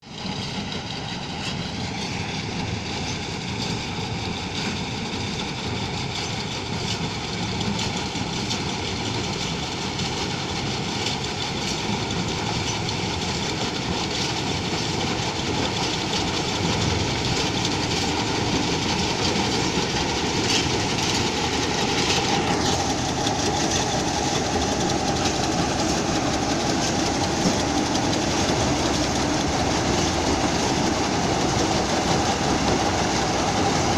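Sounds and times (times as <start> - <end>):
combine harvester rumbling: 0.0 - 33.9.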